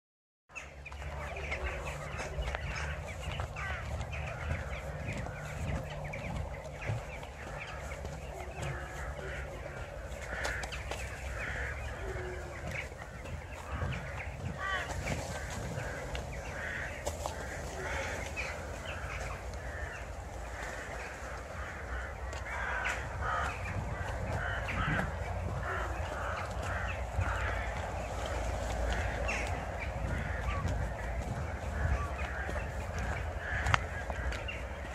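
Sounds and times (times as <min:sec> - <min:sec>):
crows calling harshly: 0:00.5 - 0:34.9.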